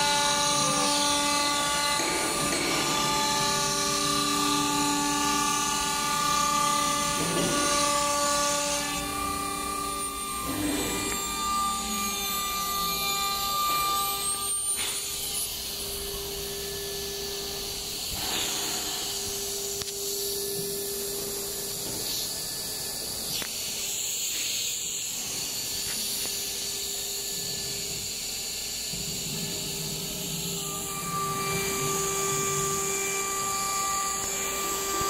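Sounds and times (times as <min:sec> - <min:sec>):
cnc router running: 0:00.0 - 0:35.0.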